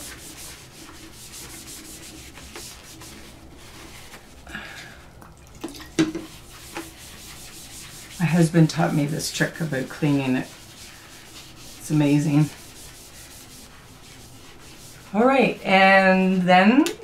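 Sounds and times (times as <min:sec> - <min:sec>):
paper towel rubbing surface: 0:00.0 - 0:04.6, 0:06.2 - 0:16.5.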